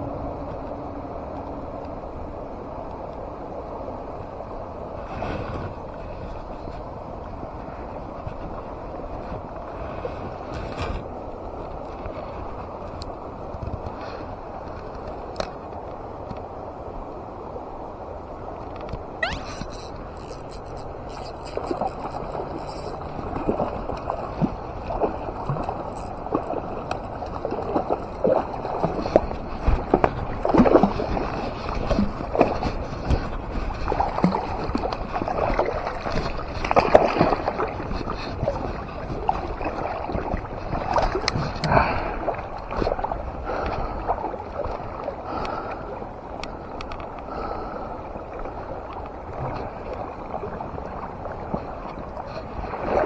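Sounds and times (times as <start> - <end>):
river water splashing and gurgling: 0.0 - 53.0.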